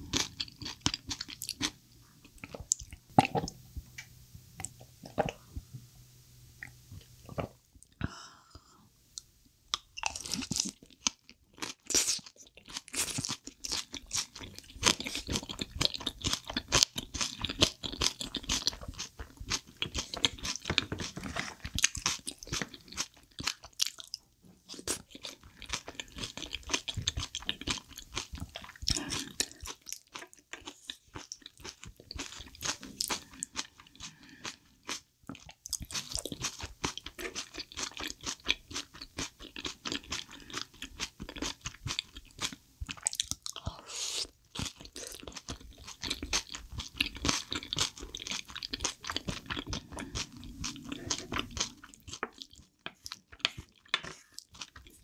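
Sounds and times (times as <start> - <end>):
close chewing with sharp crunches: 0.0 - 3.4, 9.7 - 55.0.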